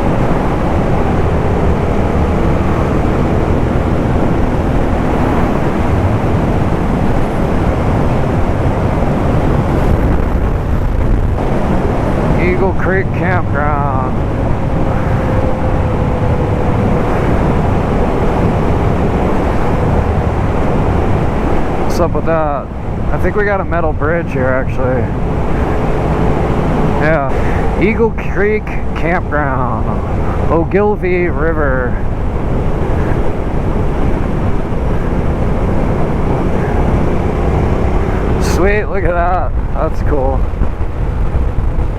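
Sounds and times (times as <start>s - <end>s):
motorcycle engine cruising: 0.0s - 41.9s
wind and road noise: 0.0s - 41.9s.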